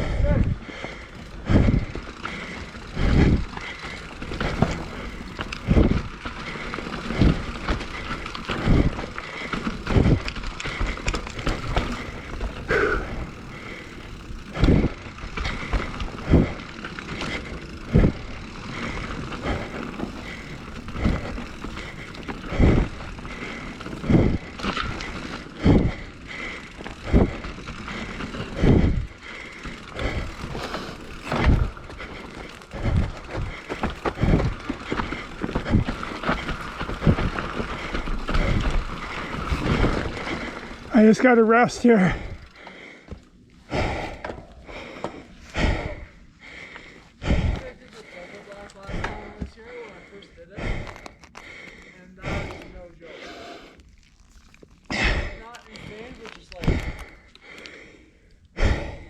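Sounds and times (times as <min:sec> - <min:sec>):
faint bike rattle: 0:00.0 - 0:59.0
heavy hard breathing: 0:00.0 - 0:59.0.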